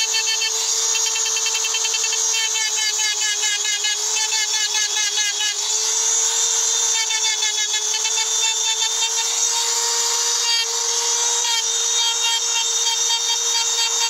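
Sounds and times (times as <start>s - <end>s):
rotary tool whining: 0.0s - 14.0s.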